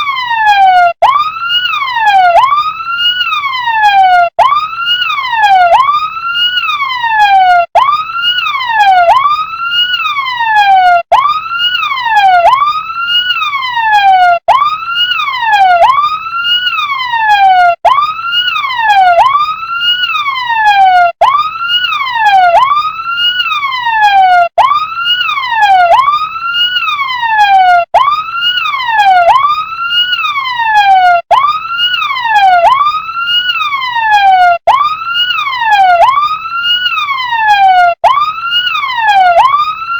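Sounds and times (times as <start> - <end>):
toy fire truck siren wailing: 0.0 - 39.9.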